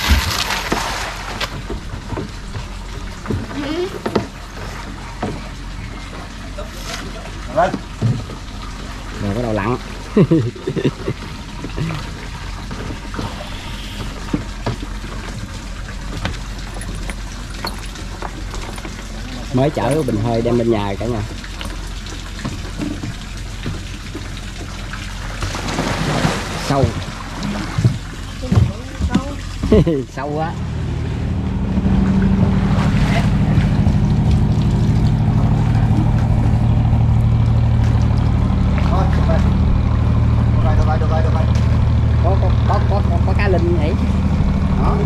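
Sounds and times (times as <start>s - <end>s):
small splashes: 0.0s - 40.5s
water sloshing and trickling: 0.0s - 45.0s.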